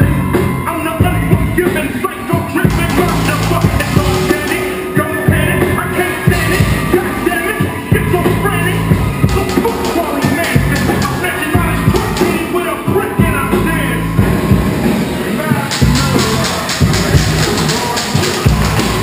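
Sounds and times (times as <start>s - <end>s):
rock song with singing: 0.0s - 19.0s.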